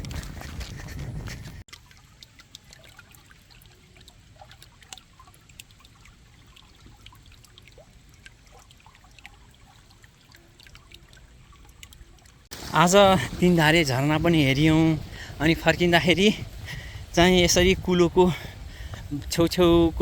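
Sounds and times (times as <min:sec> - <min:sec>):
water drips and splashes: 0:01.6 - 0:20.0
water trickling: 0:01.6 - 0:20.0.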